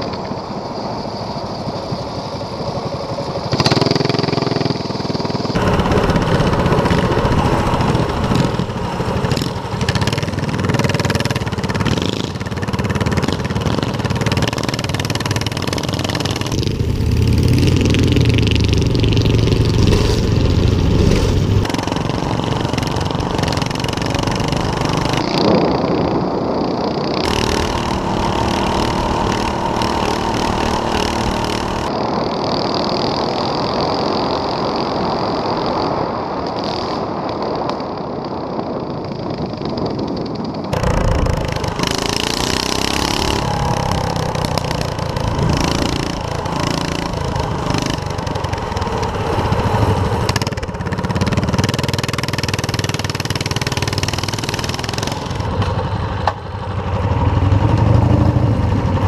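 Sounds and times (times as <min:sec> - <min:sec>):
wind buffeting microphone: 0:00.0 - 0:59.0
small engine running: 0:02.3 - 0:25.6, 0:27.1 - 0:34.8, 0:40.7 - 0:59.0.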